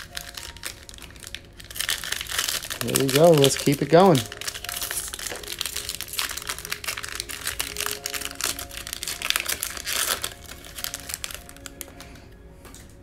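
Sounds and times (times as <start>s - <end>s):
foil wrapper crinkling and tearing: 0.0s - 12.2s
quiet background music: 0.0s - 13.0s.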